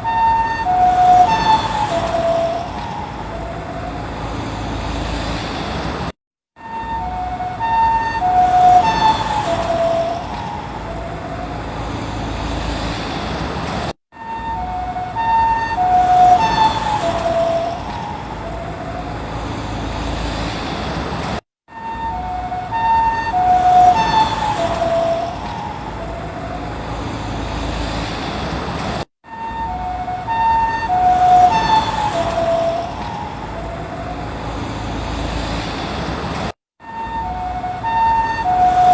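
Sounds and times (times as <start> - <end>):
ambulance two-tone siren: 0.0 - 5.4, 6.5 - 12.9, 14.1 - 20.5, 21.7 - 28.0, 29.2 - 35.6, 36.8 - 38.9
road noise: 0.0 - 38.9.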